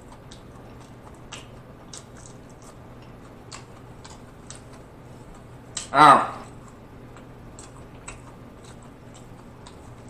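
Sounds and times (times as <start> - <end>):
chewing food: 0.0 - 10.0.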